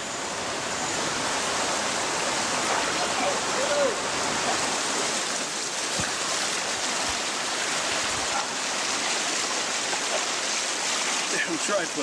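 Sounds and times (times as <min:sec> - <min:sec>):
swollen river rushing: 0:00.0 - 0:12.0.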